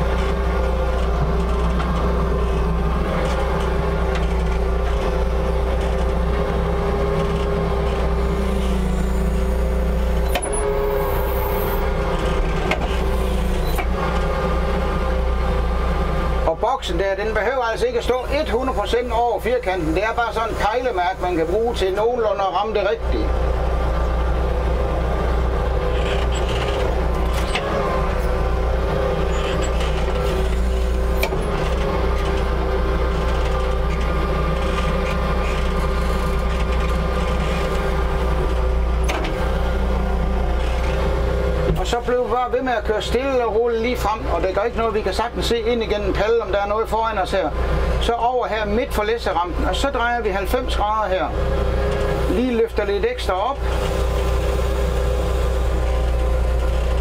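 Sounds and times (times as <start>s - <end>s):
forklift engine running: 0.0s - 57.0s.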